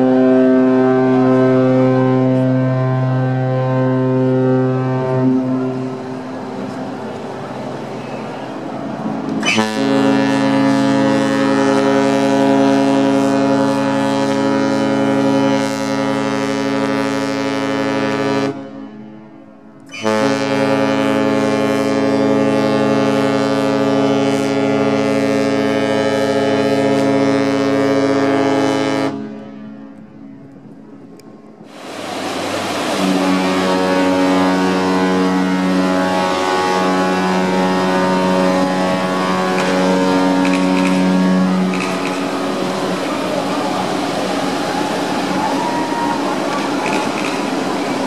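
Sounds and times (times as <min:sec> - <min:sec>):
ship horn blasts: 0:00.0 - 0:30.9, 0:31.6 - 0:48.0.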